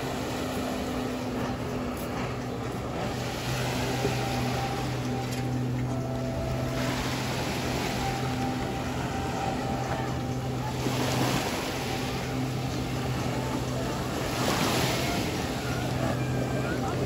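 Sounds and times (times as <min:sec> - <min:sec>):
jet ski engine running: 0:00.0 - 0:17.0
rushing water jets: 0:00.0 - 0:17.0.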